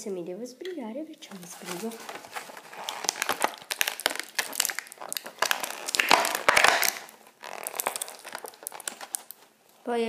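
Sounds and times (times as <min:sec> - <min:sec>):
plastic packaging crinkling: 0:01.2 - 0:09.8.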